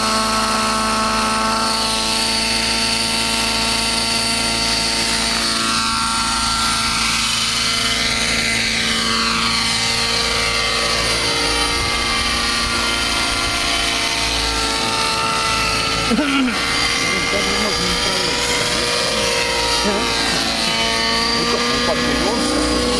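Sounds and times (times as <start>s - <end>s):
model helicopter rotor whine: 0.0s - 22.9s.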